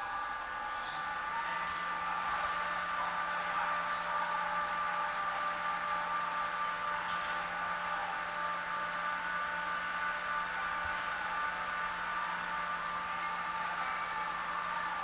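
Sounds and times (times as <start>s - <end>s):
steady whining tones: 0.0s - 15.0s
train electrical hum and hiss: 0.0s - 15.0s.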